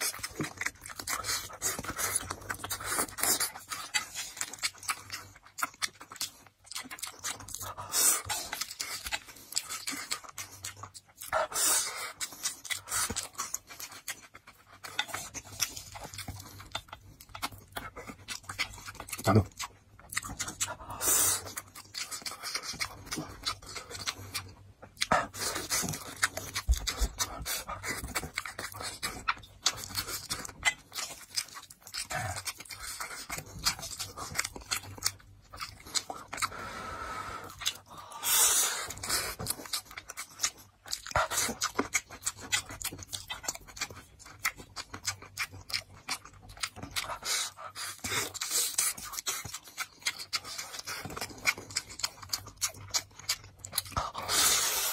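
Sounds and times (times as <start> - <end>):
wet chewing and lip-smacking: 0.0 - 36.8, 37.4 - 54.9.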